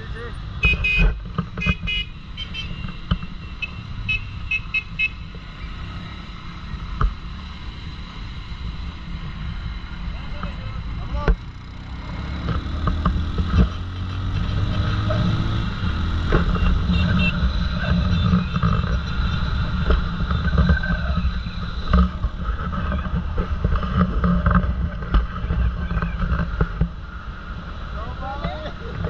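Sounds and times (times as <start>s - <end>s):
motorcycle engine accelerating: 4.8s - 29.0s.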